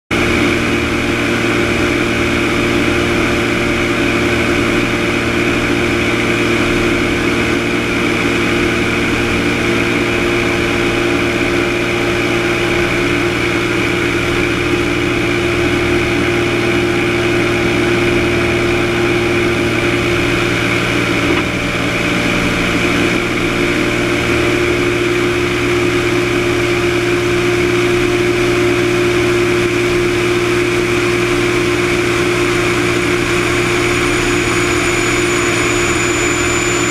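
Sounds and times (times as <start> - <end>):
light aircraft engine drone: 0.1 - 36.9.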